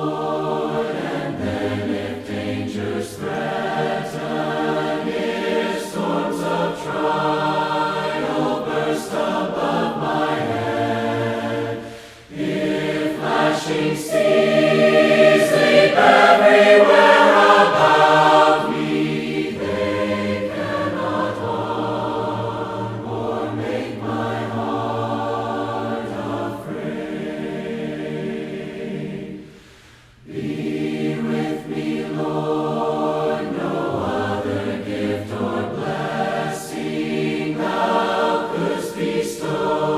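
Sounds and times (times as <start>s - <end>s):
group singing a hymn: 0.0s - 39.9s.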